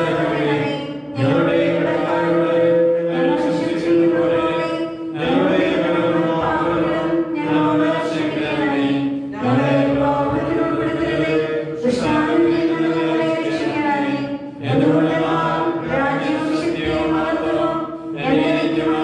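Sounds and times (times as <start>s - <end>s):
liturgical chant: 0.0s - 19.0s.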